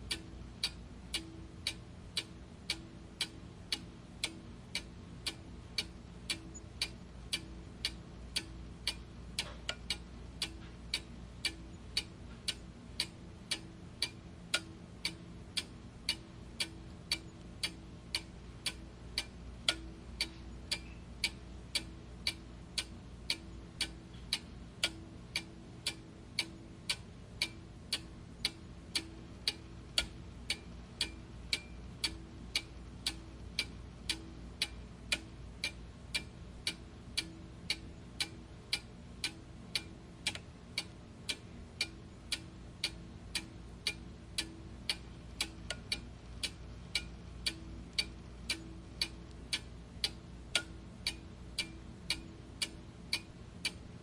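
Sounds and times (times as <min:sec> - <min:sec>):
clock ticking: 0:00.0 - 0:54.0
faint low hum: 0:00.0 - 0:54.0.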